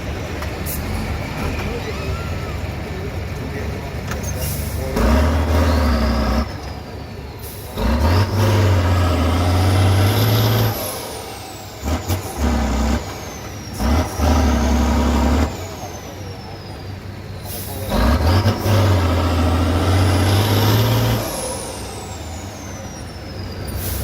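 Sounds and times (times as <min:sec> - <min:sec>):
diesel truck engine revving: 0:00.0 - 0:24.0.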